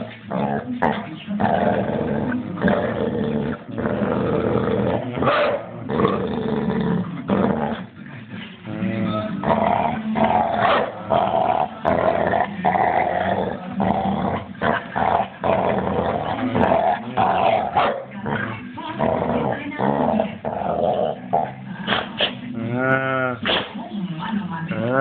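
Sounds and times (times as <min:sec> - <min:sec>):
dog growling: 0:00.0 - 0:23.8, 0:24.6 - 0:25.0.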